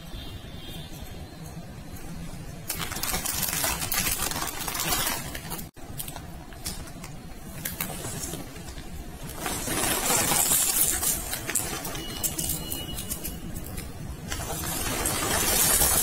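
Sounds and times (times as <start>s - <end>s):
plastic bag rustling: 2.7s - 16.0s.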